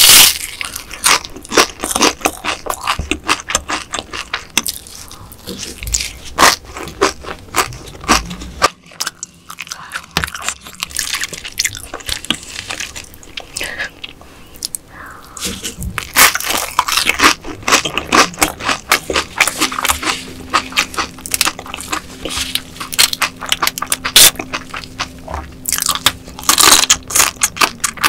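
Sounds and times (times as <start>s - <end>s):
chewing and crunching mouth sounds: 0.0s - 28.0s.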